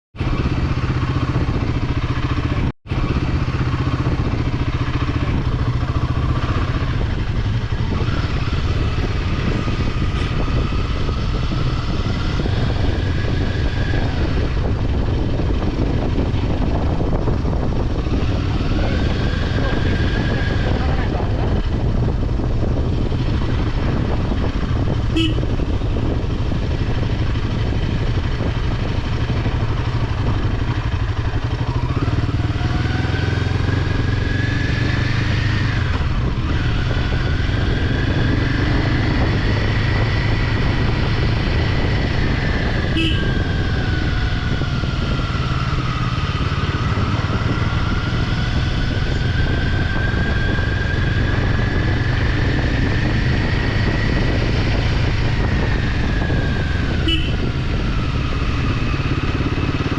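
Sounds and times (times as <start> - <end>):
road and wind noise: 0.1 - 59.9
motorcycle engine: 0.2 - 59.9.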